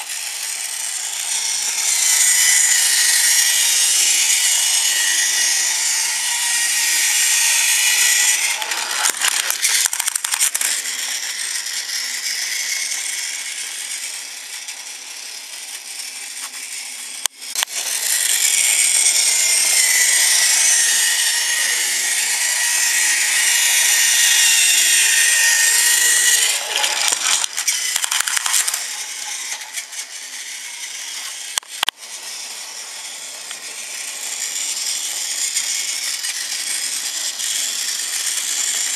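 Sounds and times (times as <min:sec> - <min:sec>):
toy train clicking and rattling: 0:00.0 - 0:38.9
toy train motor whining: 0:00.0 - 0:38.9.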